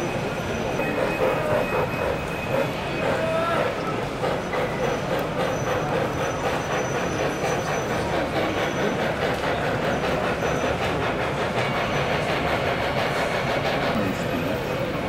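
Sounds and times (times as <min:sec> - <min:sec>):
exhibition hall background noise: 0:00.0 - 0:15.0
model steam locomotive chuffing: 0:00.0 - 0:15.0.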